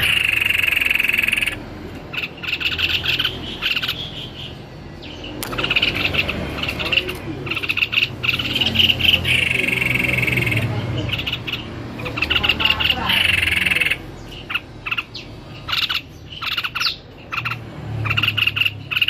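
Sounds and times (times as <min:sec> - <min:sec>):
bird singing chattering phrases: 0:00.0 - 0:19.0
bird trilling: 0:00.0 - 0:19.0.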